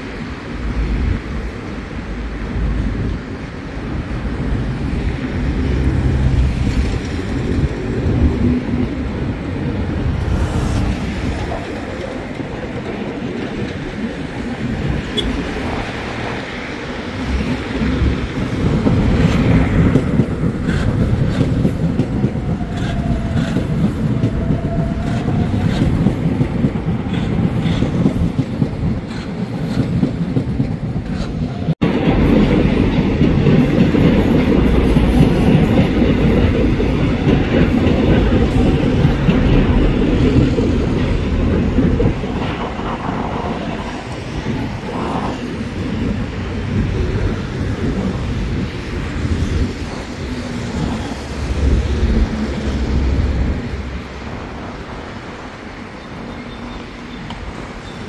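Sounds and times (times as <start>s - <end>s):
train wheels rumbling on rails: 0.0s - 58.0s
wheels clicking over rail joints: 3.9s - 54.6s.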